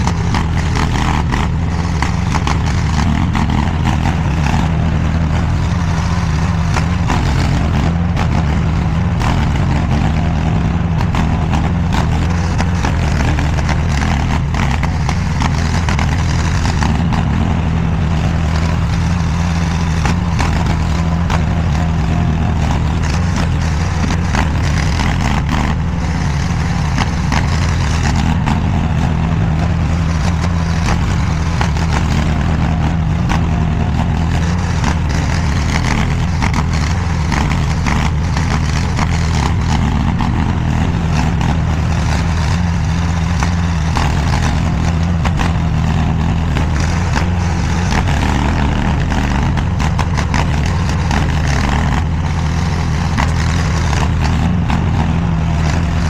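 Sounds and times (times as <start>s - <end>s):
mini skid steer engine running: 0.0s - 56.0s.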